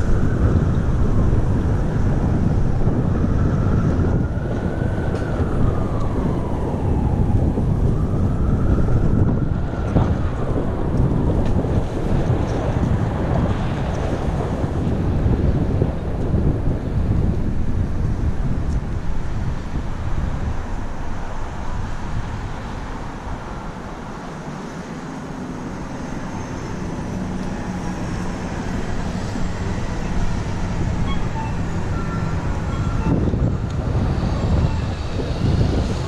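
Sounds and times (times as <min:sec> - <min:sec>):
traffic noise: 0:00.0 - 0:36.0
vehicle engine humming: 0:00.0 - 0:36.0
wind buffeting a camera: 0:00.0 - 0:36.0.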